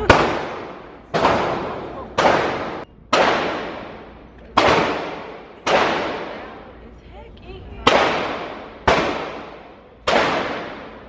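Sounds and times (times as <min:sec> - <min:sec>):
echoing gunshots: 0:00.0 - 0:06.6, 0:07.8 - 0:11.0.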